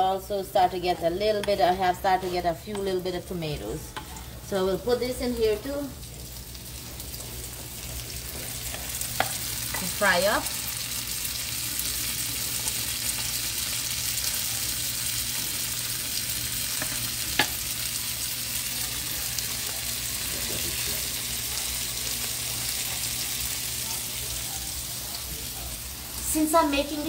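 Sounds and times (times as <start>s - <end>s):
onions and tomatoes sizzling in pan: 0.0s - 27.0s.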